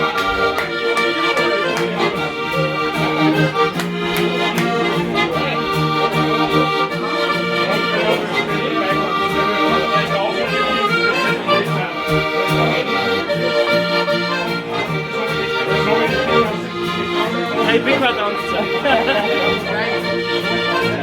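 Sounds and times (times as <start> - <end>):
accordion playing a tune: 0.0 - 21.0.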